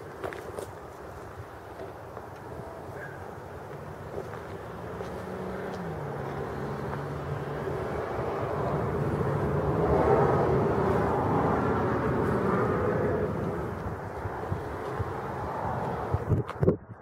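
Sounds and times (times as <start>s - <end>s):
passing vehicle engine drone: 2.4s - 16.5s.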